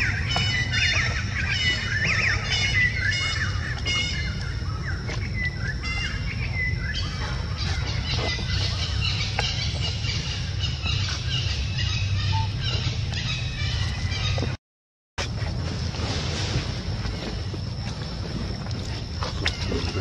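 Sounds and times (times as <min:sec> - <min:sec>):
birds chirping: 0:00.0 - 0:14.6, 0:17.0 - 0:20.0
steady low rumble: 0:00.0 - 0:14.6, 0:15.2 - 0:20.0.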